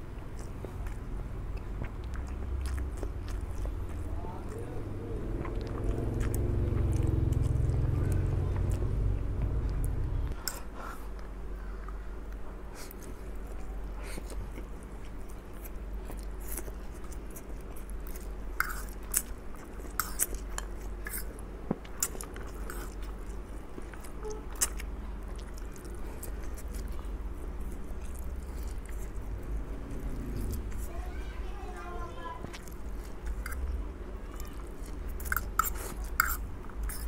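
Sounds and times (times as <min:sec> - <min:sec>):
man chewing: 0:00.0 - 0:31.0, 0:32.4 - 0:37.0.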